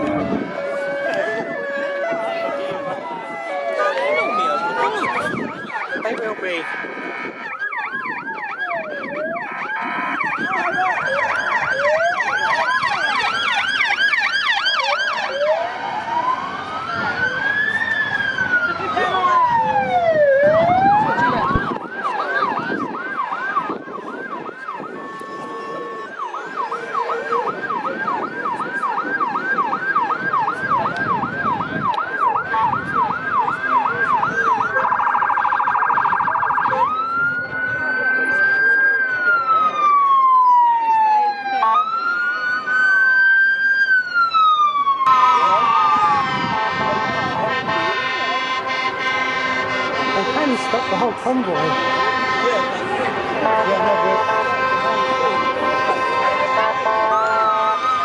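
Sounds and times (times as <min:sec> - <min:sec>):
sirens wailing: 0:00.0 - 0:58.0.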